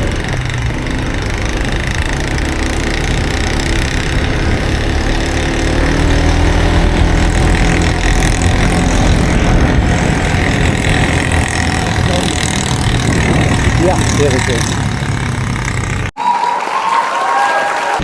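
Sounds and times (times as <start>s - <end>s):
vehicle engine running: 0.0s - 16.2s.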